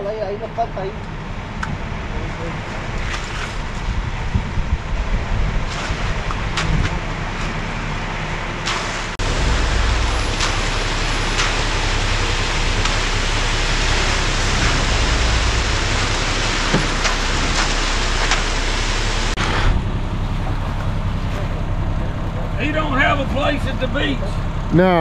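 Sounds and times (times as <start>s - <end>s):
truck engine hum: 0.0s - 25.0s.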